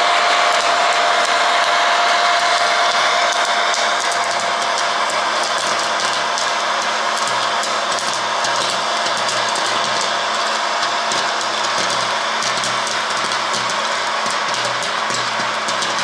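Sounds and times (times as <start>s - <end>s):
popcorn machine blower hiss: 0.0s - 16.0s
popcorn popping: 0.0s - 16.0s.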